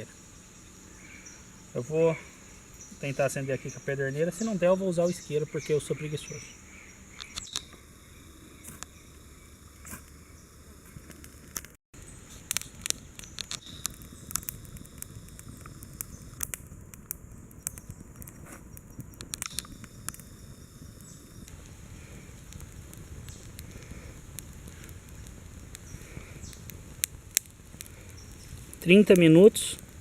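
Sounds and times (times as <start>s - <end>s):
campfire crackling: 0.0s - 30.0s
fire low steady rush: 0.0s - 30.0s.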